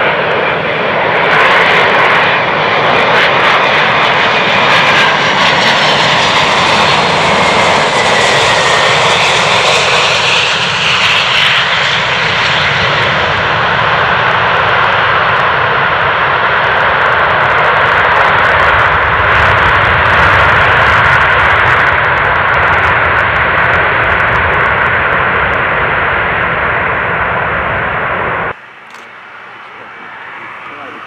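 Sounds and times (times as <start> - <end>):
jet engine roar with crackle: 0.0 - 31.0.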